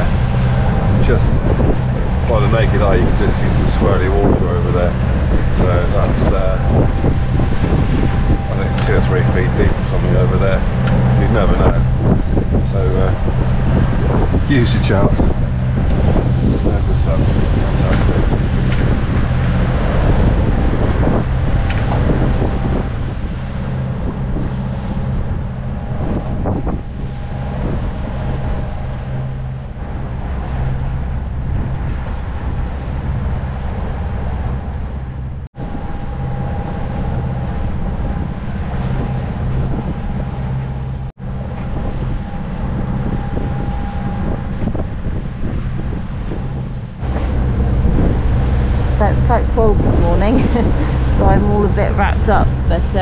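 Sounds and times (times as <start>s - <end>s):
low drone of yacht: 0.0s - 53.0s
water rushing along hull: 0.0s - 53.0s
wind buffeting microphone: 0.0s - 53.0s.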